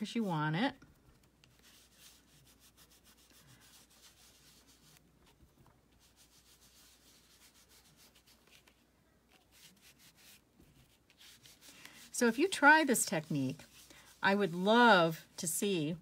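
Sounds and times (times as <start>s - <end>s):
ink sponge dabbing on card: 0.0s - 15.8s.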